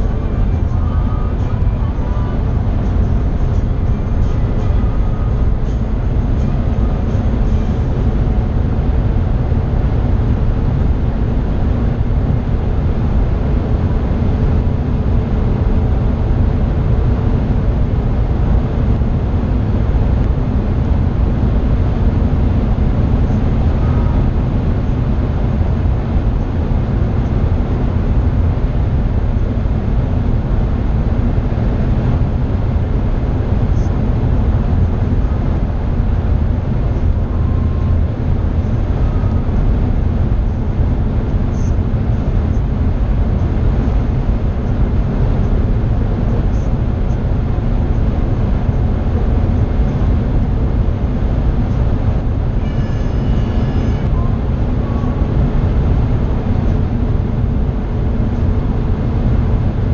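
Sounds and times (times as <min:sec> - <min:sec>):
car engine hum: 0:00.0 - 0:59.9
wind and tyre roar: 0:00.0 - 0:59.9.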